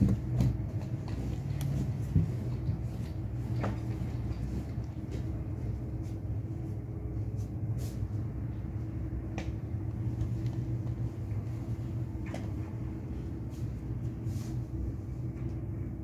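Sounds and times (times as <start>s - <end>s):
low hum and rumble: 0.0s - 16.0s.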